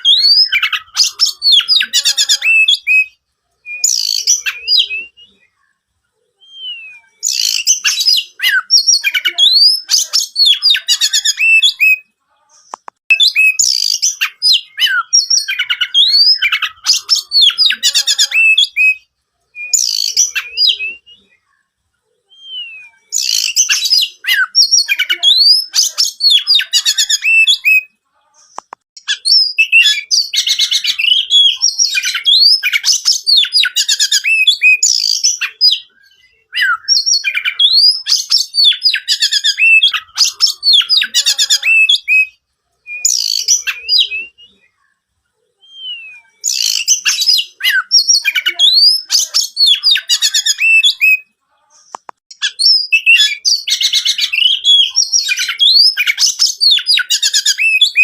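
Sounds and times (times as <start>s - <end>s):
bird singing whistles and trills: 0.0s - 5.6s, 6.4s - 12.0s, 13.1s - 21.5s, 22.2s - 27.9s, 29.1s - 44.8s, 45.6s - 51.3s, 52.3s - 58.0s.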